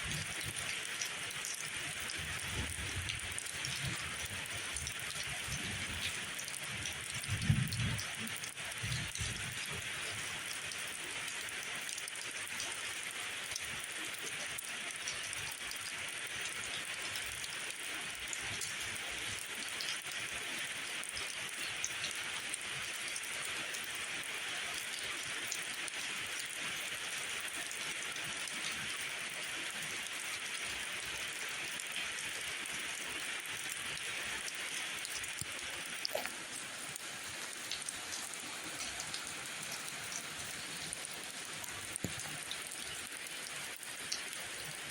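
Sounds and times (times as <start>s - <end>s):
sharp raindrop ticks: 0.0s - 24.0s, 29.8s - 44.9s
steady rain hiss: 0.0s - 44.9s.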